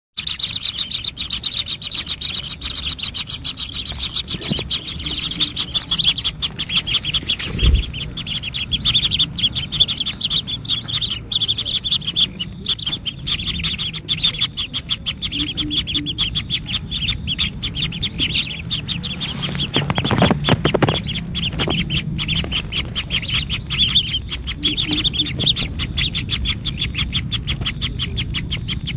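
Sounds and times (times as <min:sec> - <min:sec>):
birds chirping rapidly: 0:00.2 - 0:28.9.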